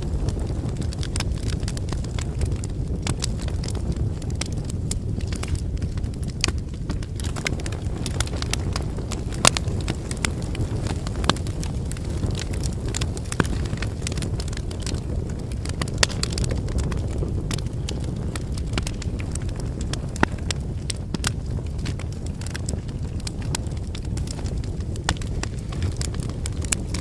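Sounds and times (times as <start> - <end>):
wood fire burning: 0.0 - 27.0.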